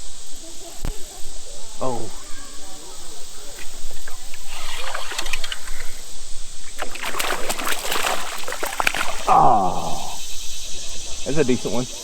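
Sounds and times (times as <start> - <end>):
water splashing: 1.8 - 12.0.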